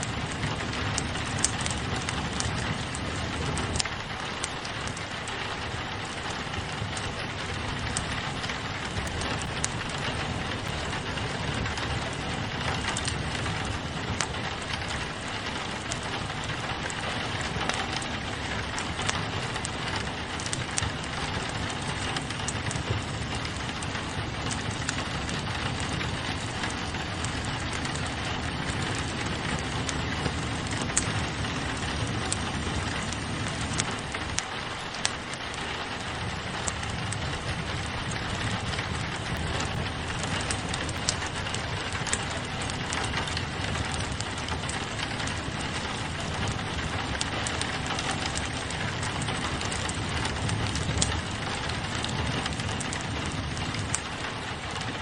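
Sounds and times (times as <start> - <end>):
logs popping: 0.0 - 55.0
rain pattering on a window: 0.0 - 55.0
wood fire crackling: 0.0 - 55.0.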